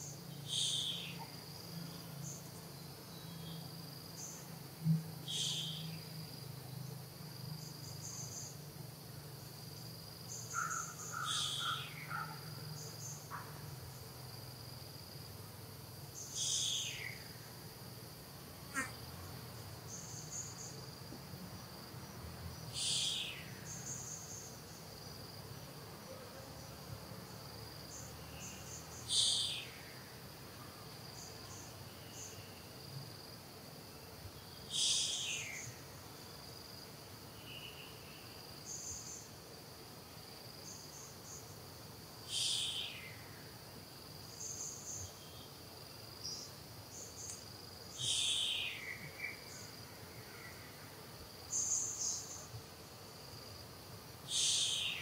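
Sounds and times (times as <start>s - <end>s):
insect chirps: 0.0s - 55.0s
insects droning: 0.0s - 55.0s.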